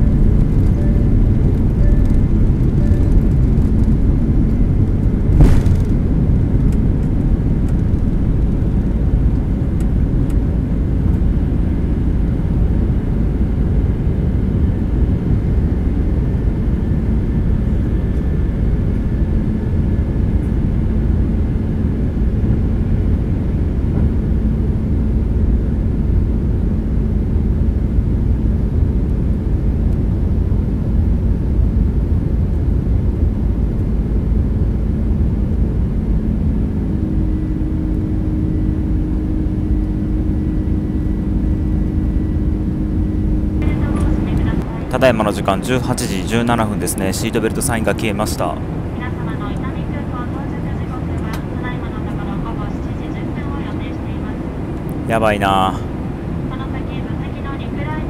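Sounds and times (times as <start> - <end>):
faint steady hum: 0.0 - 58.0
jet engine and airflow rumble: 0.0 - 58.0.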